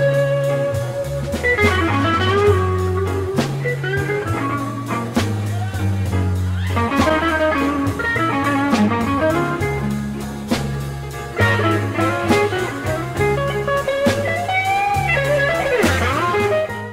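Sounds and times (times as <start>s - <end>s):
bass: 0.0s - 16.9s
blues guitar music: 0.0s - 16.9s
drums: 0.0s - 16.9s.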